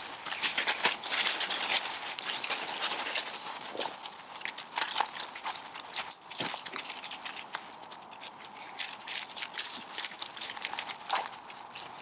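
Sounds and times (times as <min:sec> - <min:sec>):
paws crunching through dry leaves: 0:00.0 - 0:12.0.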